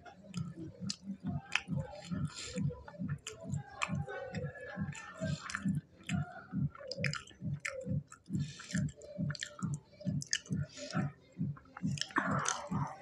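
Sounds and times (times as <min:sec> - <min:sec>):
man chewing food: 0:00.2 - 0:13.0
wet mouth clicks: 0:00.3 - 0:11.1, 0:11.8 - 0:13.0.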